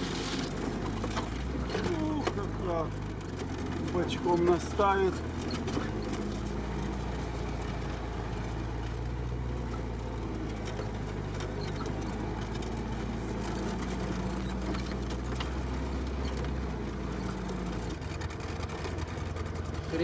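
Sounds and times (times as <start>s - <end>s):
cab rattling: 0.0s - 20.0s
vehicle engine running low: 0.0s - 20.0s.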